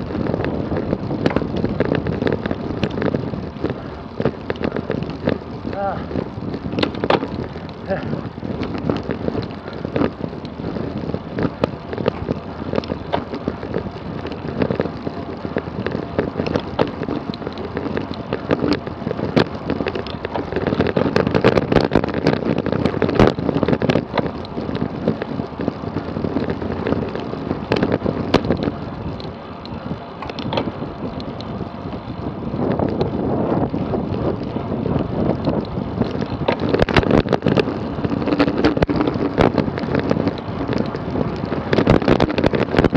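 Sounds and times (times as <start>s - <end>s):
bike clicks and knocks: 0.0s - 42.9s
tyre and road noise: 0.0s - 42.9s
wind buffeting microphone: 0.0s - 42.9s.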